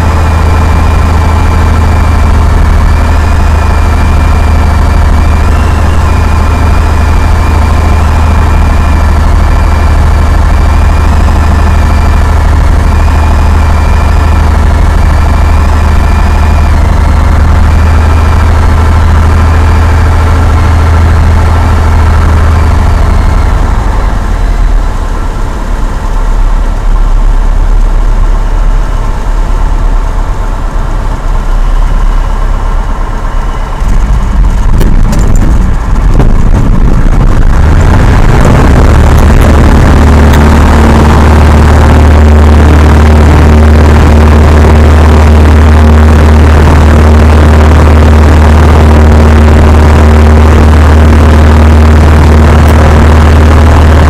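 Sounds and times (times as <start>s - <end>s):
plane engine and propeller running: 0.0s - 54.0s.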